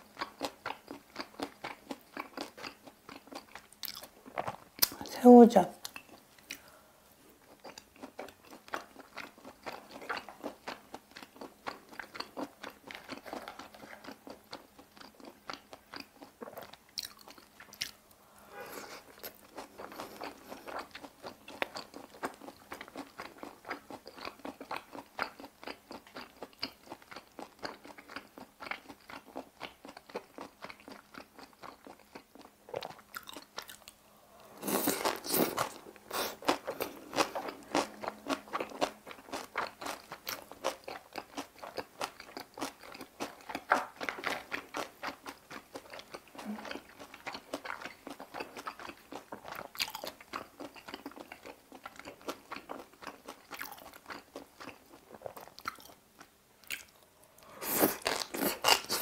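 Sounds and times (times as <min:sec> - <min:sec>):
wet crunchy chewing: 0:07.5 - 0:18.0, 0:18.9 - 0:56.0.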